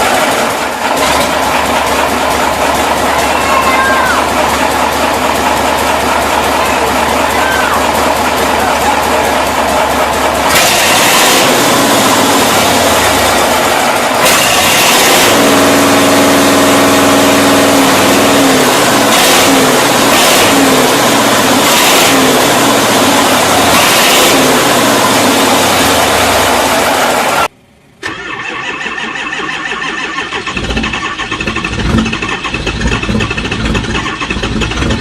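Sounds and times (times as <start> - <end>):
large engine running unevenly: 0.0 - 27.5, 30.5 - 35.0
short noisy engine bursts: 0.0 - 35.0.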